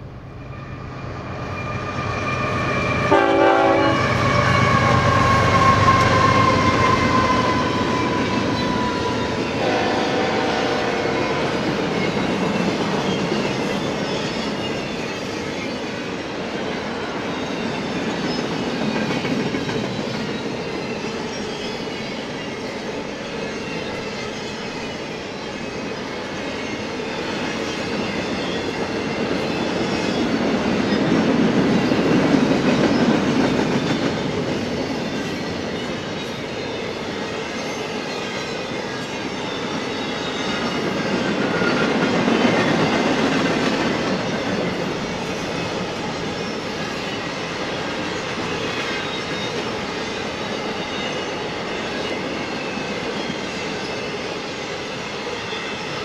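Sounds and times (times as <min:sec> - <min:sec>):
freight train wheels rolling on rails: 0:00.0 - 0:56.0.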